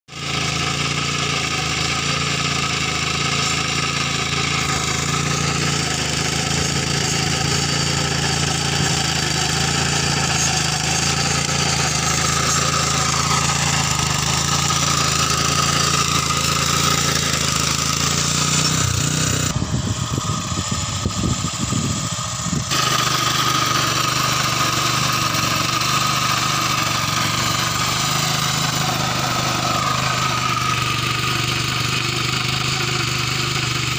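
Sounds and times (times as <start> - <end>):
cultivator engine running under load: 0.1 - 33.9.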